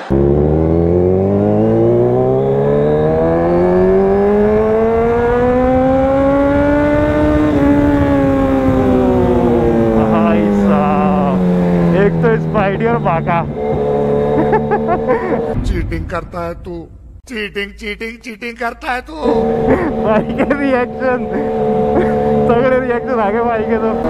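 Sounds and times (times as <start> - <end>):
motorcycle engine revving: 0.0 - 15.6, 19.2 - 24.0.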